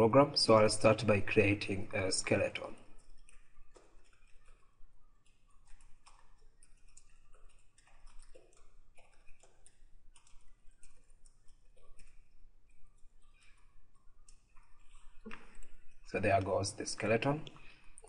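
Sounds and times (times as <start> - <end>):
keyboard typing: 2.3 - 17.3.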